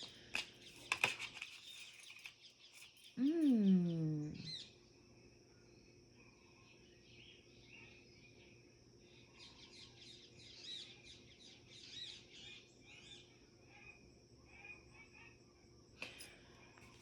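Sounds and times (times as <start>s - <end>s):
small birds chirping: 0.0s - 4.9s, 5.7s - 15.3s.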